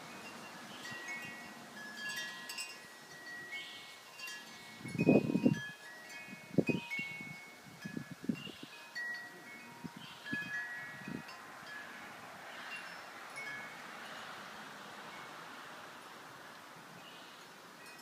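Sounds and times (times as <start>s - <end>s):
windy hiss: 0.0s - 18.0s
metal wind chime ringing: 0.1s - 14.4s, 17.8s - 18.0s.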